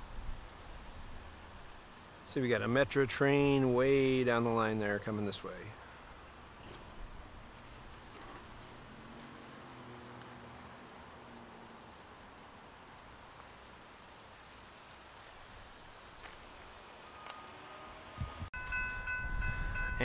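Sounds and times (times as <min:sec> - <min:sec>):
insect chorus trilling: 0:00.0 - 0:18.5.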